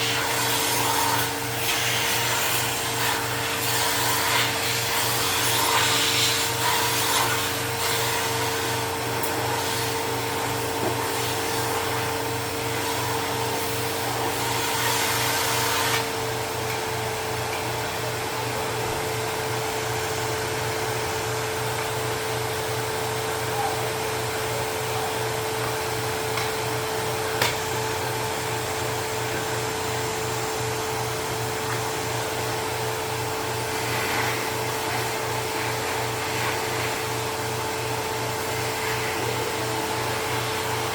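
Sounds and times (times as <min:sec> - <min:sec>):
vacuum cleaner motor humming: 0:00.0 - 0:40.9.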